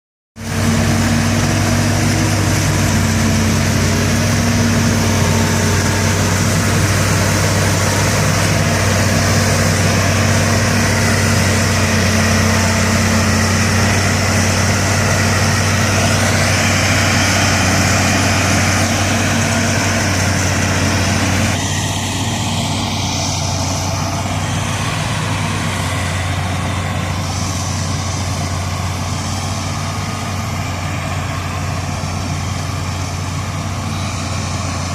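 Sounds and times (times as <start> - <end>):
heavy diesel engine humming: 0.4 - 34.9
wide rushing noise: 0.4 - 34.9.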